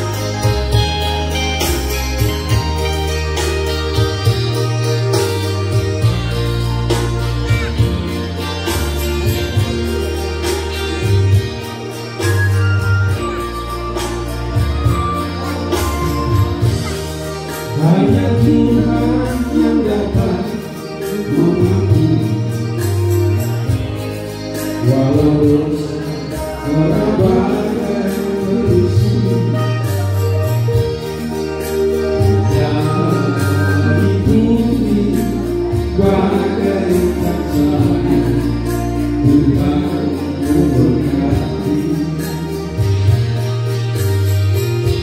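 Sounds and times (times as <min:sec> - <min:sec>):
man singing into a microphone: 0:00.0 - 0:43.6
instrumental accompaniment: 0:00.0 - 0:45.0.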